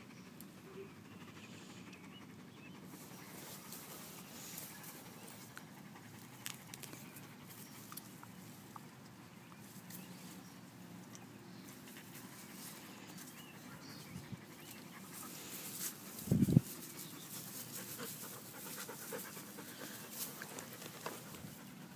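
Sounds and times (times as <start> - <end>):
dog panting: 0.0 - 8.3, 11.7 - 21.9.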